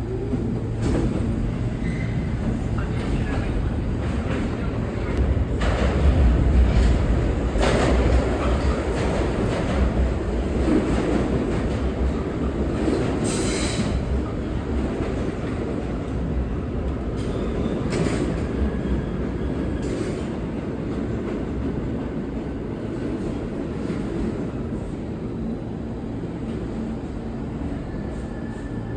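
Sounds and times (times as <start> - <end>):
subway train rumble: 0.0 - 28.9.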